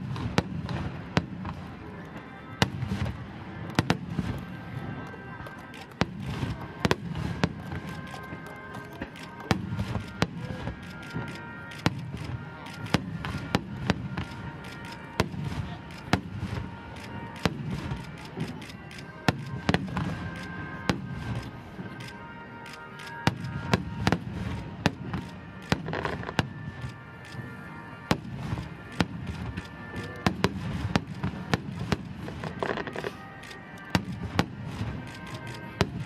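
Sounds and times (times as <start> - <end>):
fireworks bursting with sharp bangs: 0.0 - 36.0.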